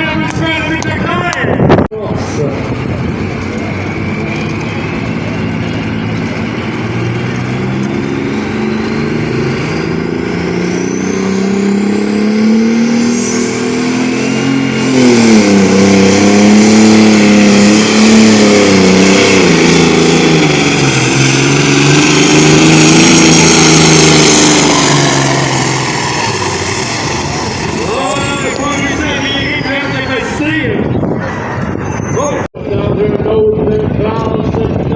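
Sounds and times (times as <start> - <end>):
tractor diesel engine labouring: 2.0 - 34.9.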